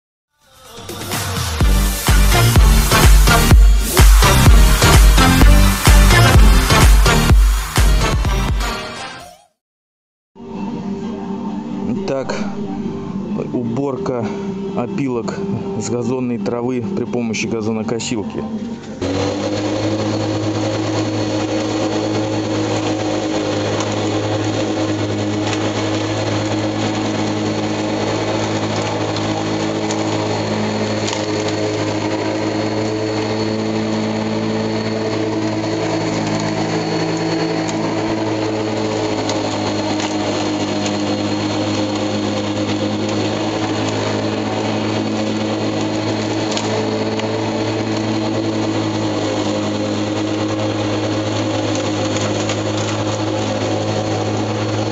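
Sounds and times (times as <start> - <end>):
lawn mower running: 0.8 - 9.0, 10.4 - 54.9.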